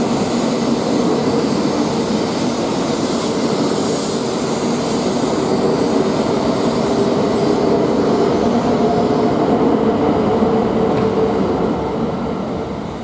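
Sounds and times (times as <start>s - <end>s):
train passing: 0.0s - 13.0s.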